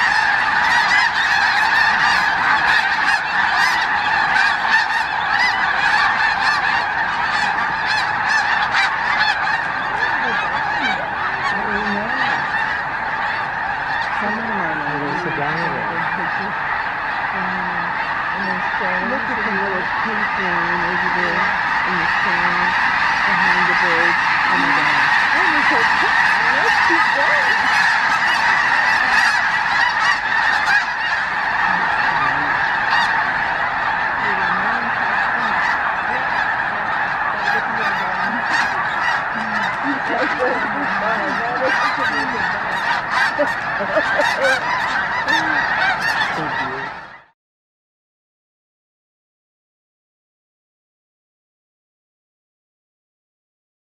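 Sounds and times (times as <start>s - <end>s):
flock of geese honking: 0.0s - 47.3s.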